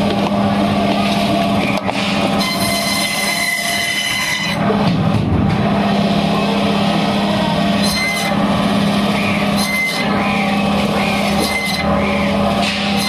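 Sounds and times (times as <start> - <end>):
band saw cutting fish: 0.0 - 4.9, 5.6 - 13.0.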